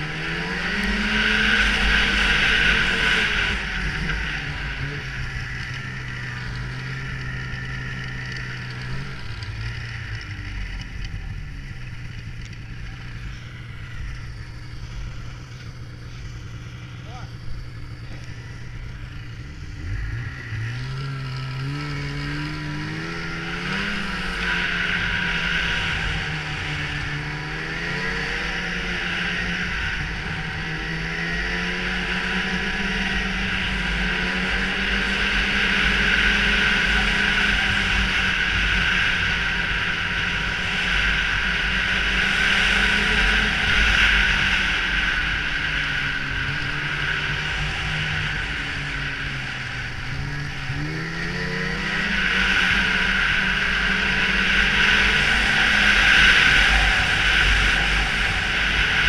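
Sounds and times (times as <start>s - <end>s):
snowmobile engine revving: 0.0s - 59.0s
wind and track hiss: 0.0s - 59.0s.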